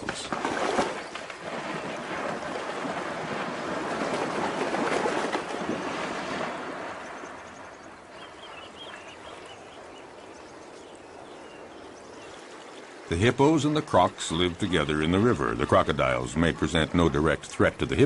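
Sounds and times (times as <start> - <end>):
river water splashing: 0.0 - 18.0.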